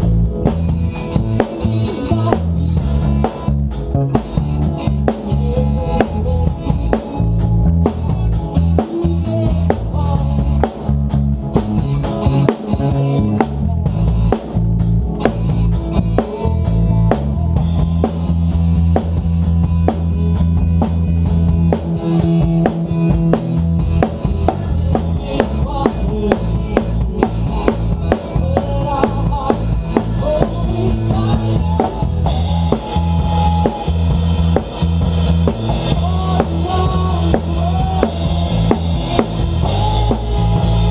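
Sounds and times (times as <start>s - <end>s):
sustained bass notes: 0.0s - 40.9s
worship band playing: 0.0s - 40.9s.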